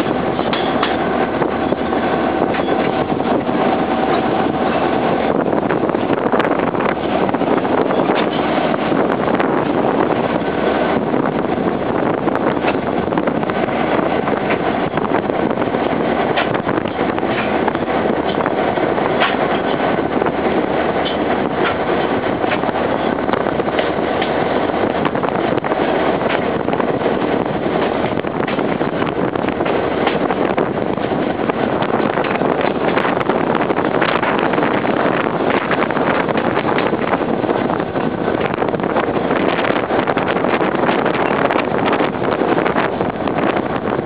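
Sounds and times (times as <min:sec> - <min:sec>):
wind on microphone: 0:00.0 - 0:44.0.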